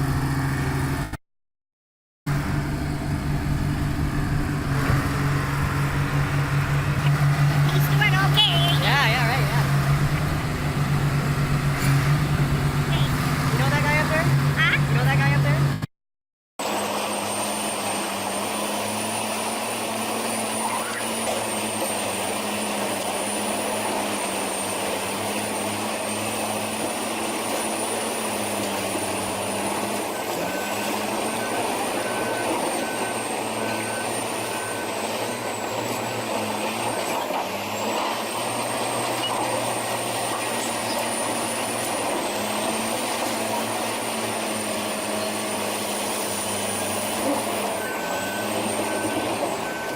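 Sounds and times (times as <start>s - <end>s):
diesel construction machine running: 0.0s - 1.2s, 2.3s - 15.9s, 16.6s - 49.9s.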